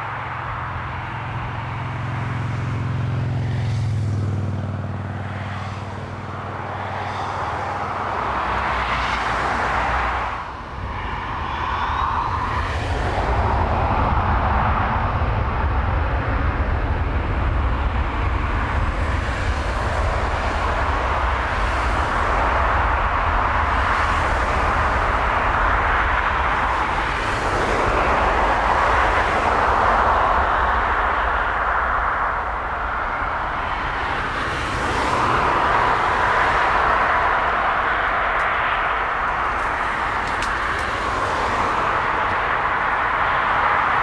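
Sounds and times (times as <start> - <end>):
jet engines humming: 0.0 - 44.0
rising engine whine: 0.0 - 44.0.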